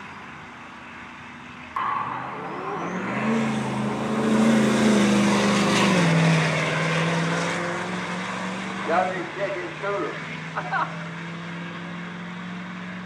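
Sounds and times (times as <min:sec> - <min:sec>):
truck engines at full throttle: 0:00.0 - 0:13.0.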